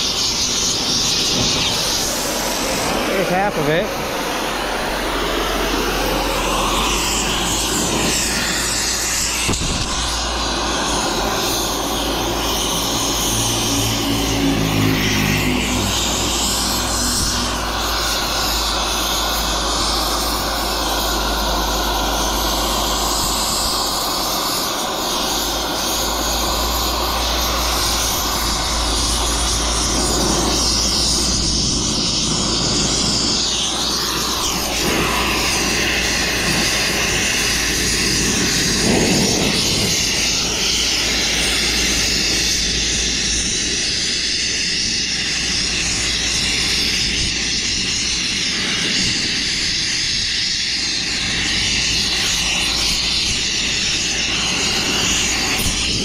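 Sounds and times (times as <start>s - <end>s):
cutting torch hissing: 0.0s - 56.0s.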